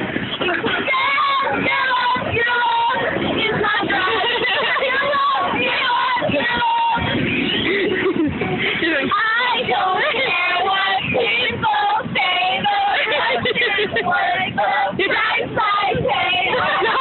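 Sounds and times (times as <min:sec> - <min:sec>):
girls singing: 0:00.4 - 0:07.7, 0:08.6 - 0:17.0.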